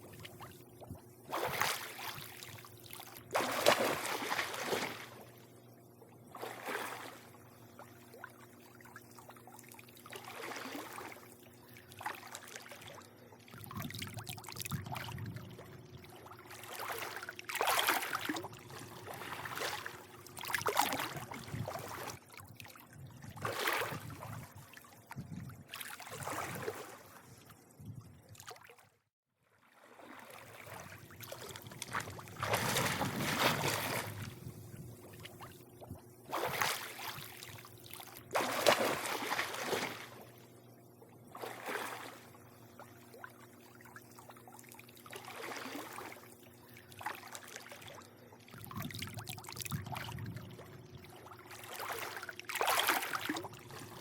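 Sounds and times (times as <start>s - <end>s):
faint steady hum: 0.0s - 28.6s, 29.7s - 54.0s
pool water lapping and sloshing: 0.0s - 54.0s.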